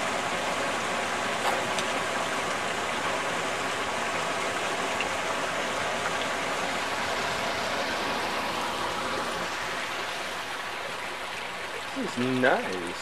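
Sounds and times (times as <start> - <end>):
creek rushing over stones: 0.0 - 13.0.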